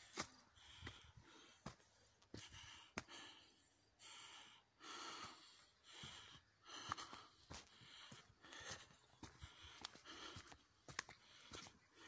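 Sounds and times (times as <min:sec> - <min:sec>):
hard breathing: 0:00.0 - 0:12.0.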